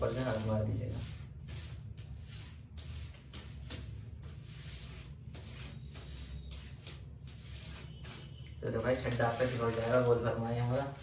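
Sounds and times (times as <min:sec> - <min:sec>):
hands smoothing paper: 0:00.0 - 0:11.0.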